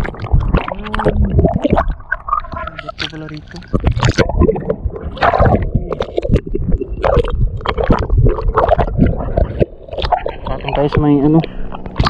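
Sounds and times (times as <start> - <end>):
water sloshing and gurgling: 0.0 - 12.0.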